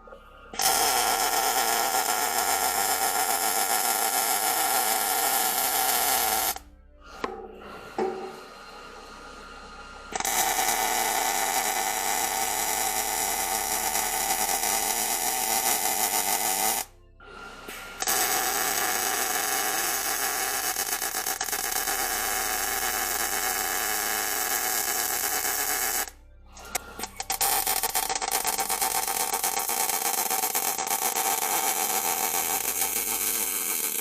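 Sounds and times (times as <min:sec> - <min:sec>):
welding arc crackling: 0:00.6 - 0:06.6, 0:10.2 - 0:16.9, 0:18.0 - 0:34.0.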